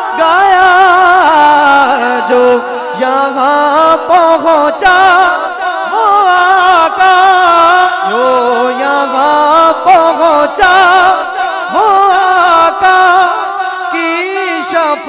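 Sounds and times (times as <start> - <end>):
man singing melismatic notes: 0.0 - 15.0.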